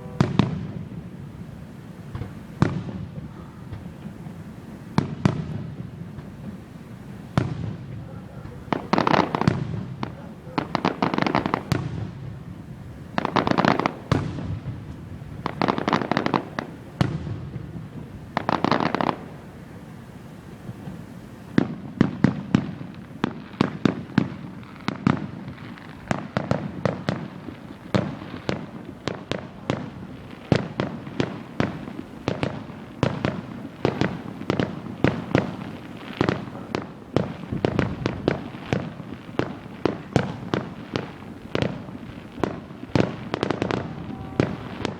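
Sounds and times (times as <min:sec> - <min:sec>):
fireworks crackling bursts: 0:00.0 - 0:44.9
rapid fireworks bangs: 0:00.0 - 0:44.9.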